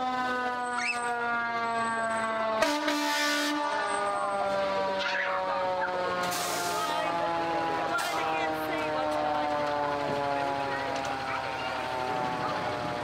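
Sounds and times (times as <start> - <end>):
fire engine siren winding down: 0.0 - 13.0.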